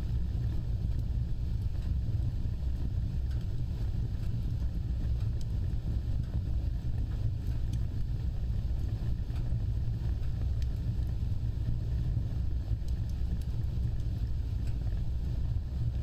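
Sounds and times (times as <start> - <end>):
faint fire crackles: 0.0 - 16.0
fire flames rumbling: 0.0 - 16.0.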